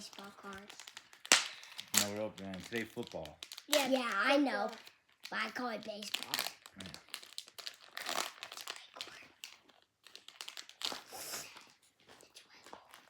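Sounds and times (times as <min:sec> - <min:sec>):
foil wrapper crinkling and tearing: 0:00.0 - 0:11.8.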